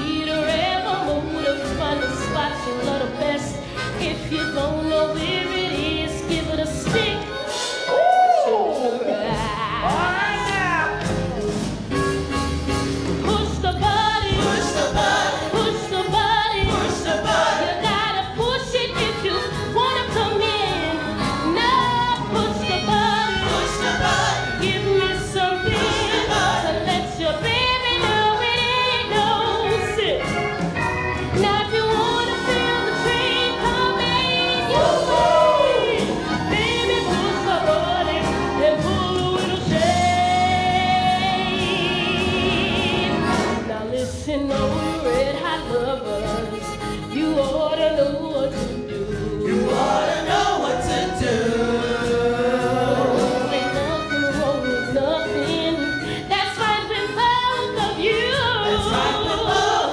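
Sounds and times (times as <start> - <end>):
woman singing lead vocal: 0.0 - 10.2, 13.2 - 30.3, 31.3 - 59.9
band playing steady beat: 0.0 - 59.9.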